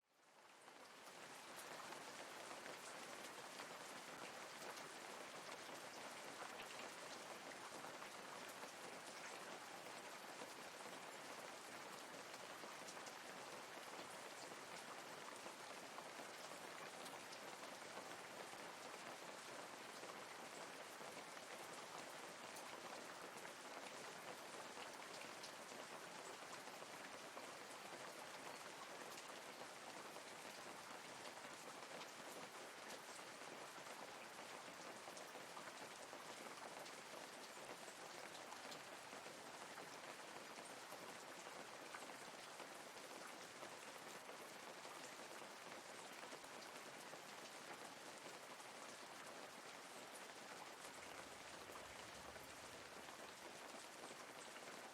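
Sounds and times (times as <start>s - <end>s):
light rain falling: 0.0s - 54.9s.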